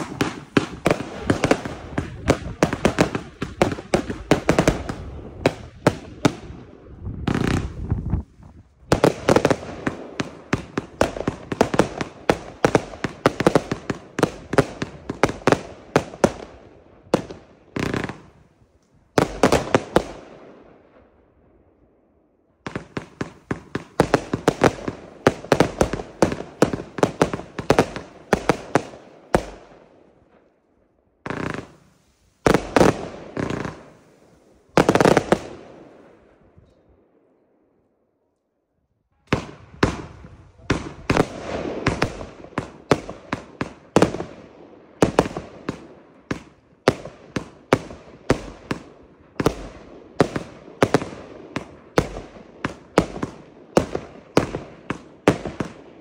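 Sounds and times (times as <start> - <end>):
firework shots bursting: 0.0 - 8.2, 8.8 - 18.4, 22.7 - 29.8, 31.2 - 36.0, 39.3 - 55.9.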